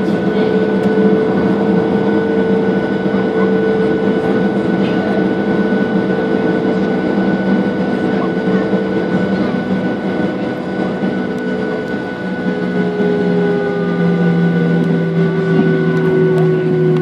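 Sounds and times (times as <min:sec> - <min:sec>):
jet engines humming and whining: 0:00.0 - 0:17.0.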